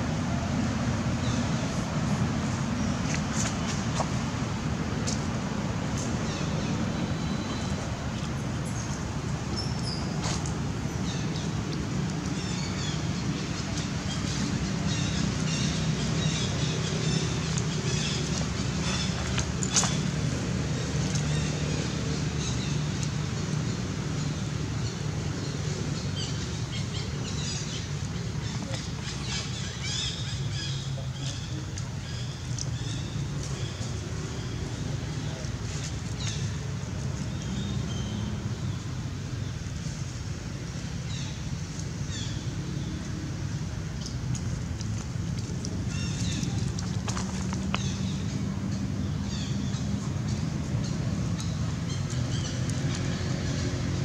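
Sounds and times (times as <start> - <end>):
low rumbling background noise: 0.0 - 54.0.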